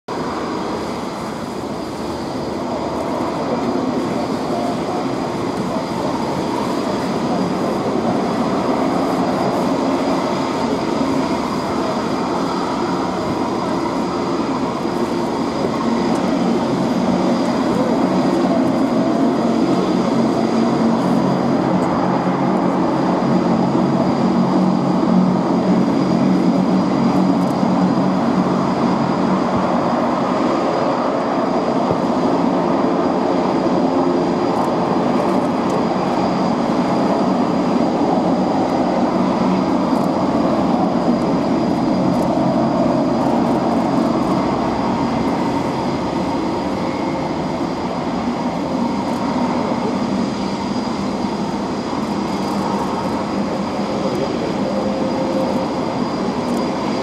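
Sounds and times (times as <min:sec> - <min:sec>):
turboprop engines droning: 0:00.1 - 0:57.0.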